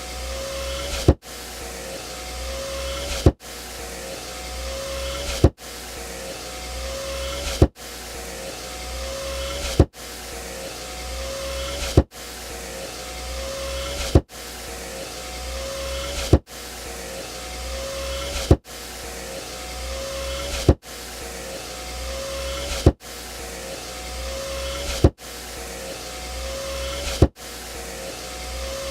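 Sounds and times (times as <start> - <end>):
power window motor whine: 0.0 - 28.9.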